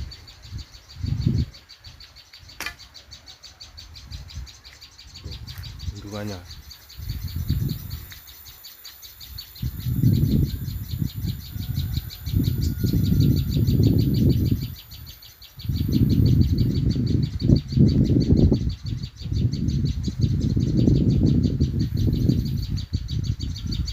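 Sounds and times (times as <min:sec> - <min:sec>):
bird high ticking calls: 0:00.0 - 0:23.9
wind rumble on microphone: 0:00.0 - 0:23.9.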